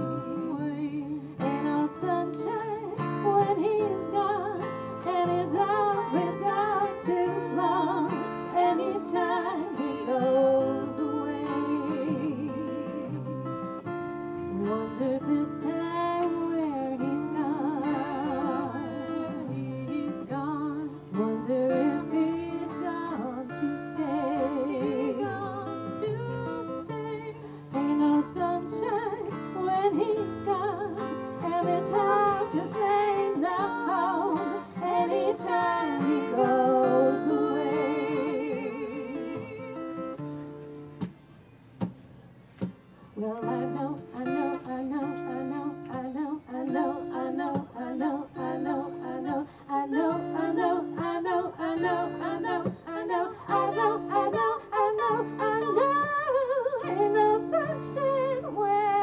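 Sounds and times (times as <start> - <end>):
women singing in harmony: 0.0 - 40.9, 43.2 - 59.0
acoustic guitar strumming: 0.0 - 59.0.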